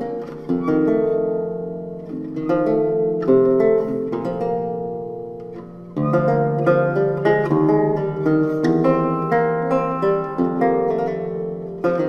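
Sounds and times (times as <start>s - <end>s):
lute plucked chords: 0.0s - 12.0s.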